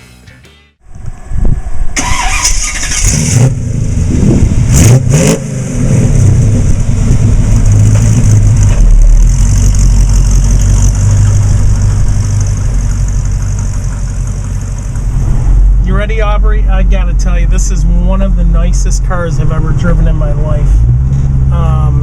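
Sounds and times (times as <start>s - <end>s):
car engine revving: 2.0s - 22.0s.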